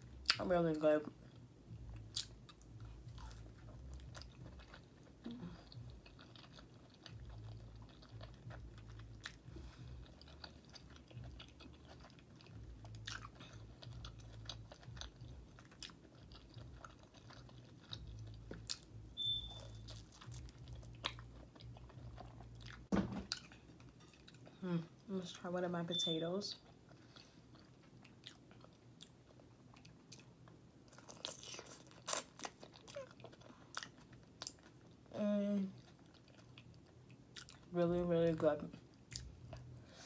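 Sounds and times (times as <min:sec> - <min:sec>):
chewing soft food: 0:01.1 - 0:24.7, 0:26.5 - 0:35.2, 0:35.8 - 0:37.7, 0:38.8 - 0:40.0.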